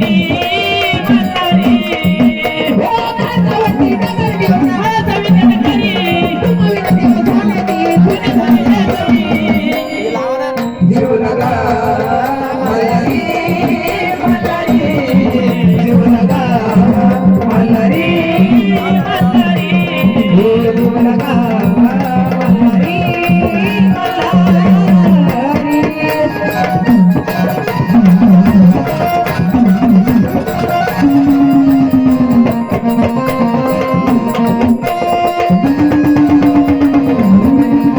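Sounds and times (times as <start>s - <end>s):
hand drum: 0.0s - 37.9s
rattling percussion: 0.0s - 37.9s
wavering melody: 0.0s - 37.9s.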